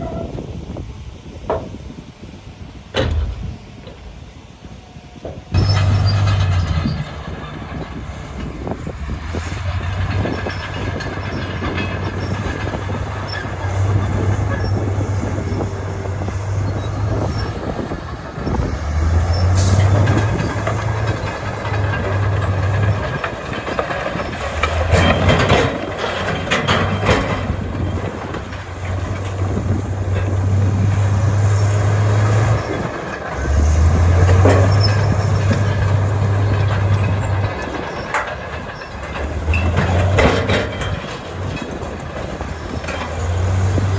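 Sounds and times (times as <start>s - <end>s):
heavy diesel machinery engine drone: 0.0s - 43.9s
clanking and knocking: 2.9s - 43.9s.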